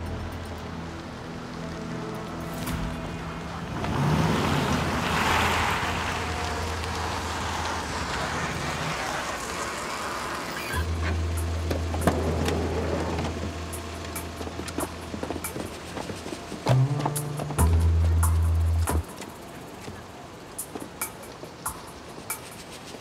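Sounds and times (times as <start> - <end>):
van driving on asphalt: 0.0 - 23.0.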